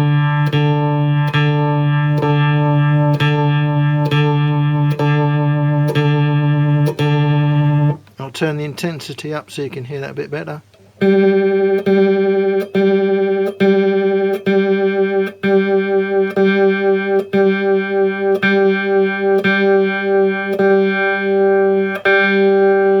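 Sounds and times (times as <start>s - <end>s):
electric guitar notes with vibe wobble: 0.0s - 8.1s, 10.8s - 23.0s.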